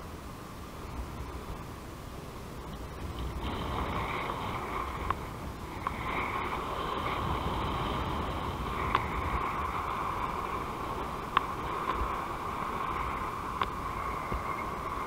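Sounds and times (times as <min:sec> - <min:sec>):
airflow rushing over microphone: 0:00.0 - 0:15.0.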